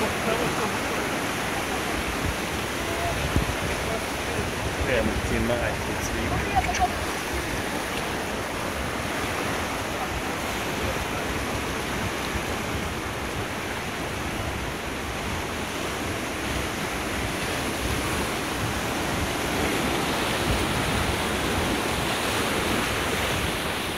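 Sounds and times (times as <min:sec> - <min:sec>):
whitewater rapids rushing: 0:00.0 - 0:23.9
wind rumble on microphone: 0:00.0 - 0:23.9.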